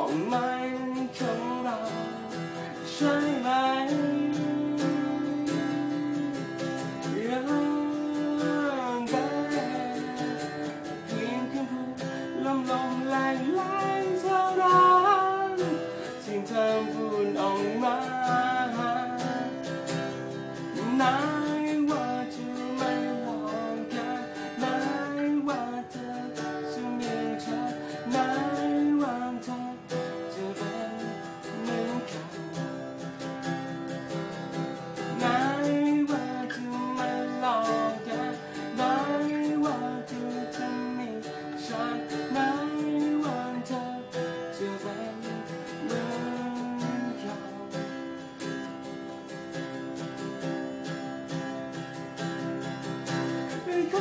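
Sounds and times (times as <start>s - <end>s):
man singing: 0.0s - 33.4s, 34.8s - 48.7s, 52.8s - 54.0s
acoustic guitar strumming: 0.0s - 54.0s.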